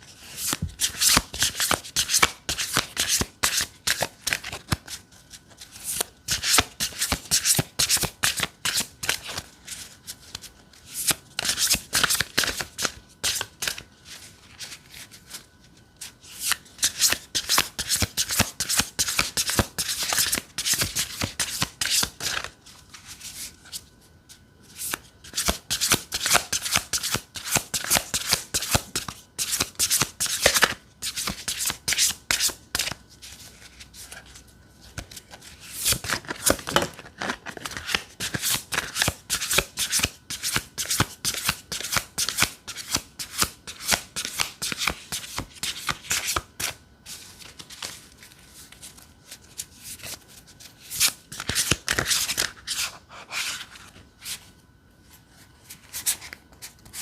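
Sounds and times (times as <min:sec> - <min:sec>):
cards being shuffled: 0:00.2 - 0:13.8, 0:16.4 - 0:23.8, 0:24.8 - 0:34.3, 0:34.9 - 0:53.9.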